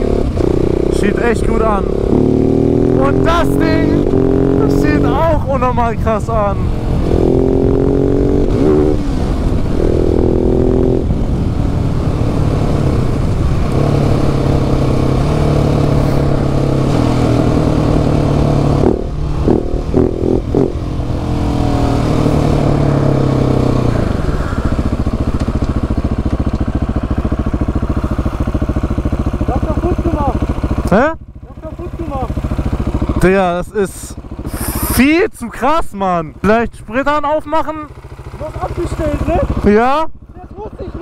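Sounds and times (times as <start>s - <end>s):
motorcycle engine revving: 0.0s - 35.2s, 36.0s - 41.0s.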